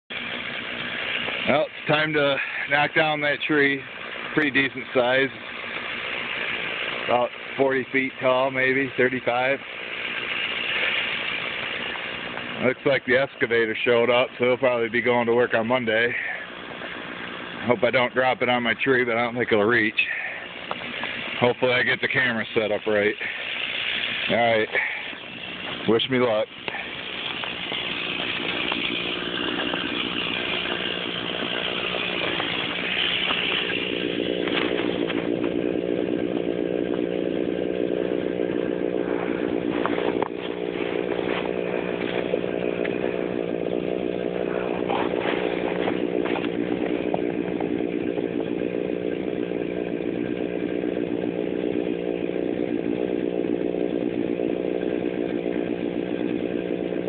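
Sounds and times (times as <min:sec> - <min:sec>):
chainsaw cutting wood: 0:00.1 - 0:13.2, 0:20.1 - 0:57.0
chainsaw running: 0:00.1 - 0:57.0.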